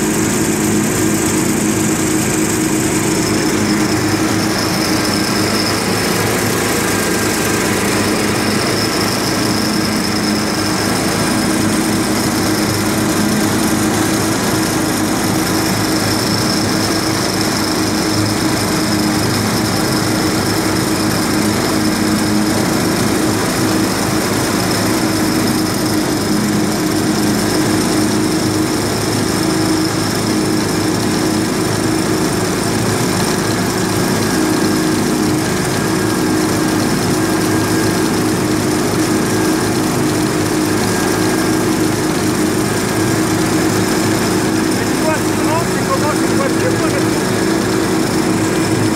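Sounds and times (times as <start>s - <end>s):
engine droning: 0.0s - 48.9s
high engine whine: 0.0s - 48.9s.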